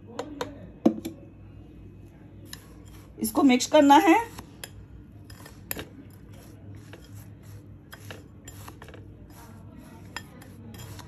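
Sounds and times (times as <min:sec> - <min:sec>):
low steady hum: 0:00.0 - 0:11.0
light clicks and scrapes in bowl: 0:02.0 - 0:11.0.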